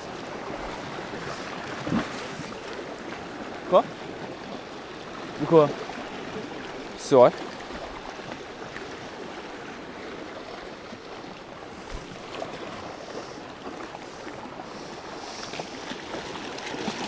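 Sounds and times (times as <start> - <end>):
sea water washing against rocks: 0.0 - 4.4, 5.2 - 17.0.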